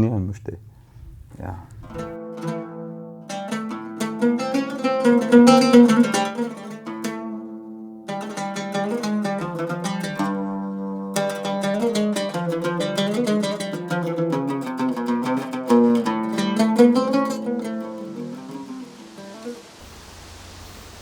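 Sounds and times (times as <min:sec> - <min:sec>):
oud plucked melody: 0:01.7 - 0:19.8.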